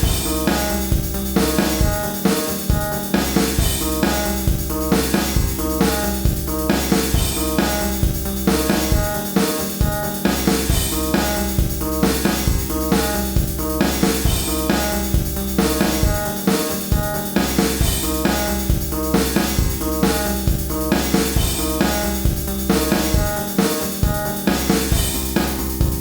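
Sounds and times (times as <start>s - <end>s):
drum kit beat: 0.0s - 26.0s
post-punk rock music: 0.0s - 26.0s.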